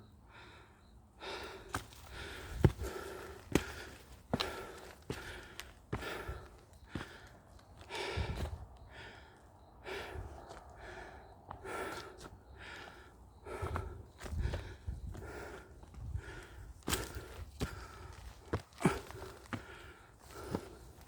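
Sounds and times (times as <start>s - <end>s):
heavy breathing: 0.3s - 21.0s
footsteps on trail: 1.2s - 21.0s.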